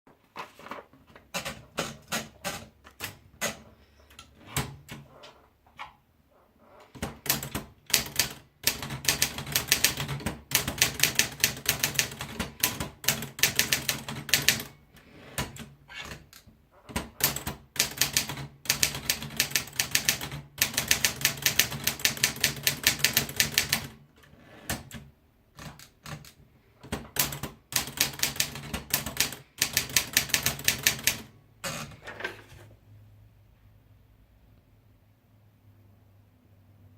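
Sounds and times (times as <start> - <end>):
manual typewriter typing: 0.6 - 5.2, 6.9 - 32.0.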